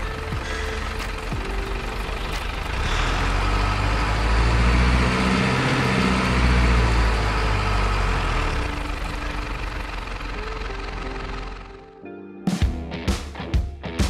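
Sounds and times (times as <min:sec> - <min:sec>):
toy truck engine rumble: 0:00.0 - 0:11.8.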